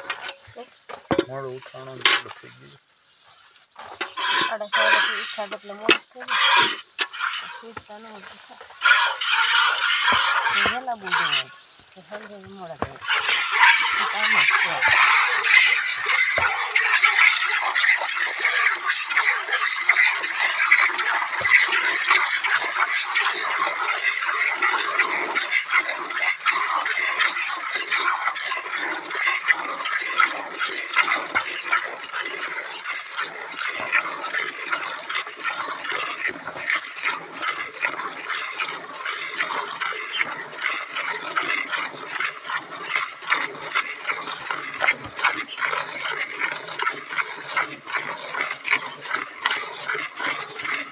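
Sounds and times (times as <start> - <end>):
milk squirting into steel bucket: 3.8 - 50.9.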